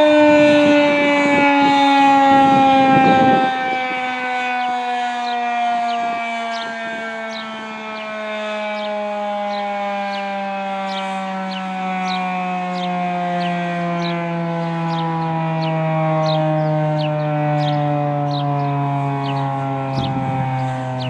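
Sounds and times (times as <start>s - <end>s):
warning siren winding down: 0.0s - 21.0s.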